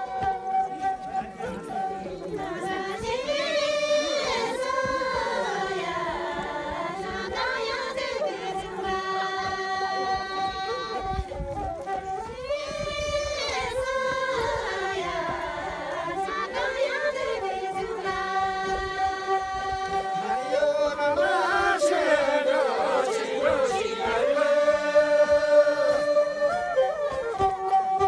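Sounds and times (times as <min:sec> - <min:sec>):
women singing in unison: 0:02.3 - 0:11.5, 0:12.2 - 0:26.6.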